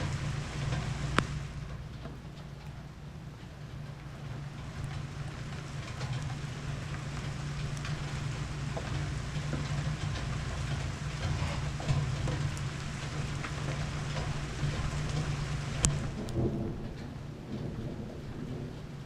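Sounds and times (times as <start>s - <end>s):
dripping water: 0.0s - 17.7s
low hum: 0.0s - 19.0s
rain falling: 0.0s - 19.0s.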